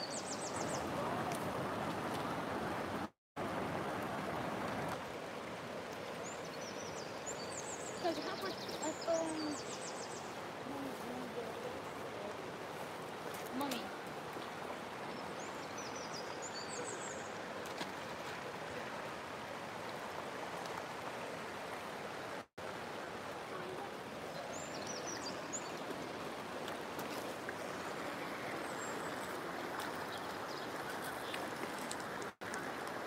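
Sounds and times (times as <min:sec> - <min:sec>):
river water rushing over gravel: 0:00.1 - 0:33.0.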